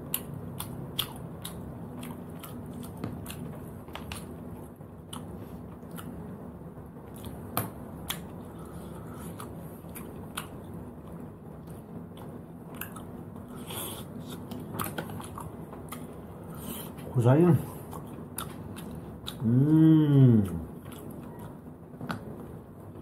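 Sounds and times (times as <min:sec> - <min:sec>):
steady low hum: 0:00.0 - 0:23.0
chewing: 0:00.1 - 0:06.3, 0:08.0 - 0:17.1, 0:17.7 - 0:22.2.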